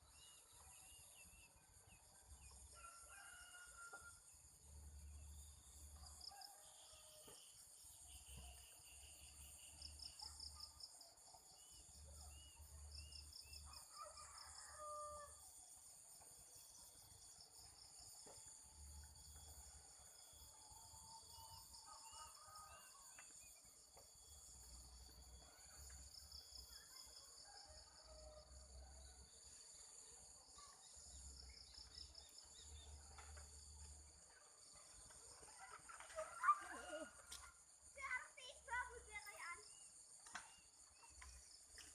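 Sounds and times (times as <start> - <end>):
insects buzzing and trilling: 0.1 - 41.9.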